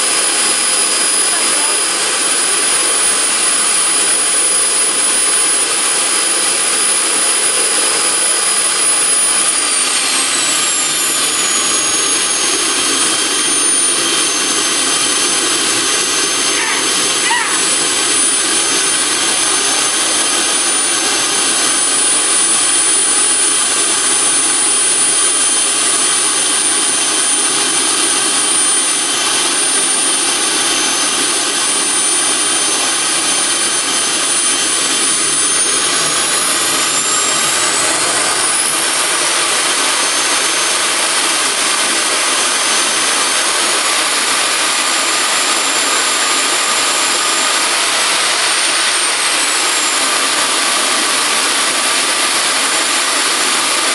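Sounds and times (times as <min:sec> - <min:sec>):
high-pitched turbine whine: 0:00.0 - 0:53.9
jet engine rush: 0:00.0 - 0:53.9.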